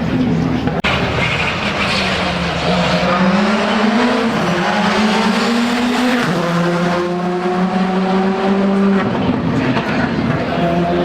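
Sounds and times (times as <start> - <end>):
rally car engine revving: 0.7 - 11.0.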